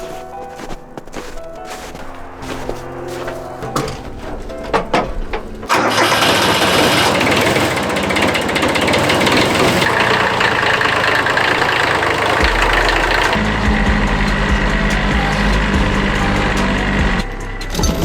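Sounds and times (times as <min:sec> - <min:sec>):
vehicle engine cranking and running: 0:00.6 - 0:18.0.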